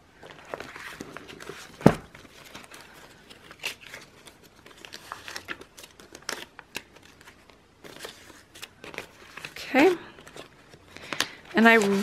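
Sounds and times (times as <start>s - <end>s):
paper and plastic rustling: 0.2s - 12.0s.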